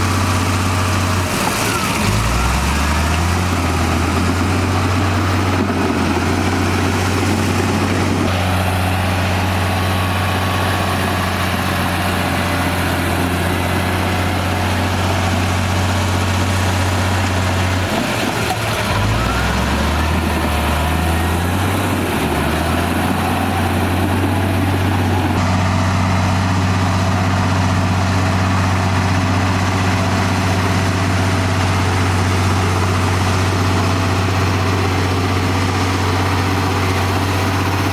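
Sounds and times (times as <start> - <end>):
bulldozer diesel engine humming: 0.0 - 37.9.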